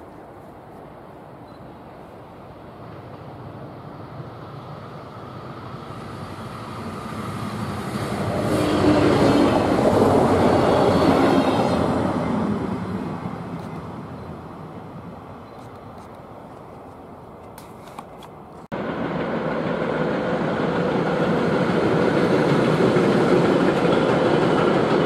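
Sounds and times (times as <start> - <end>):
diesel train passing: 0.0 - 17.5, 18.3 - 25.0.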